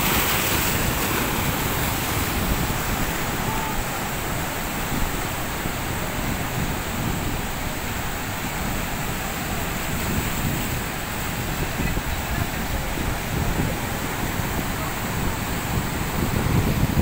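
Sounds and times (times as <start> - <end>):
sea surf breaking: 0.0 - 17.0
wind buffeting microphone: 0.0 - 17.0.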